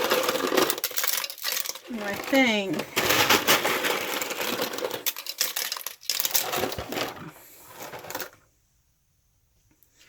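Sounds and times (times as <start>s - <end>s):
dry pasta clattering into a pot: 0.0s - 8.4s.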